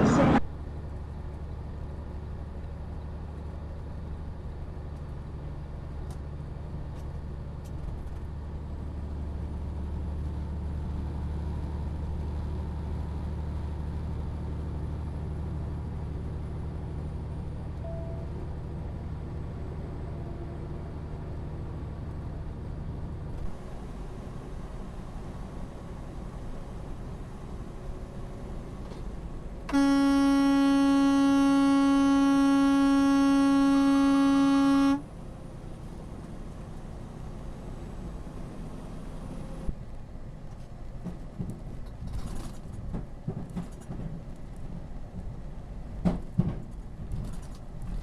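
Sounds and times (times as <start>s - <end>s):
truck engine drone inside cab: 0.0s - 48.0s.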